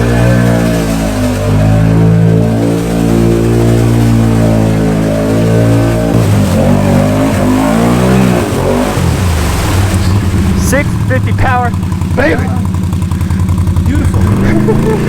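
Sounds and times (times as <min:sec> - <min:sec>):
atv engine running hard: 0:00.0 - 0:15.0.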